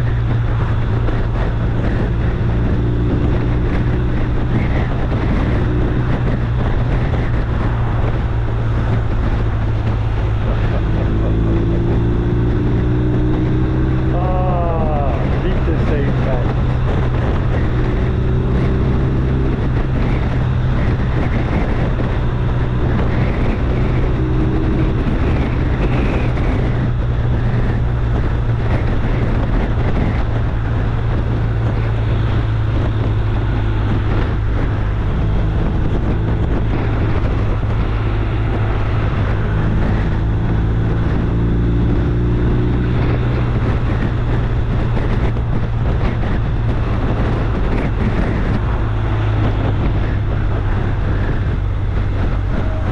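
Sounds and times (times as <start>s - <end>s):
low engine drone: 0.0s - 52.9s
wind noise on microphone: 0.0s - 52.9s.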